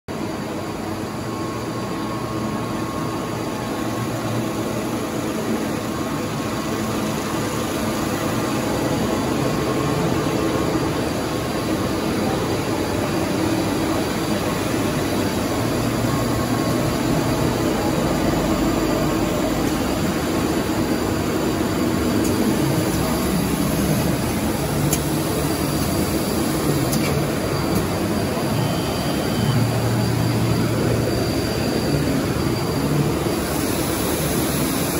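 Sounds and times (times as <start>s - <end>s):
machinery humming: 0.1s - 34.9s.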